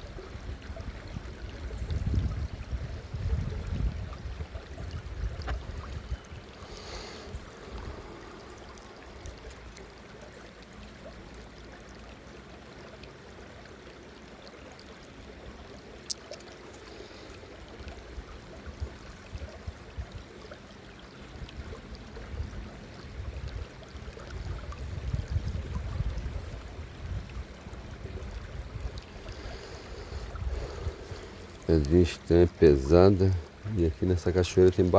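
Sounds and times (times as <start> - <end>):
stream water running: 0.0 - 34.9.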